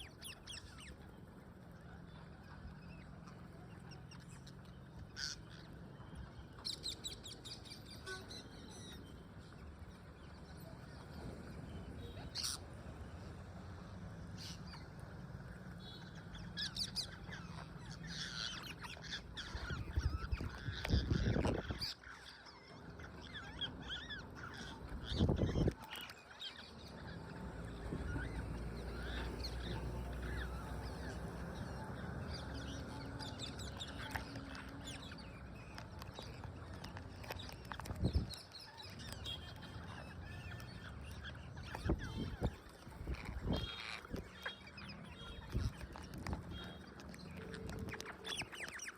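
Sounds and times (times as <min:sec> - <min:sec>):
parrots chirping and squawking: 0:00.0 - 0:01.1, 0:01.8 - 0:09.2, 0:12.3 - 0:12.6, 0:15.9 - 0:48.9.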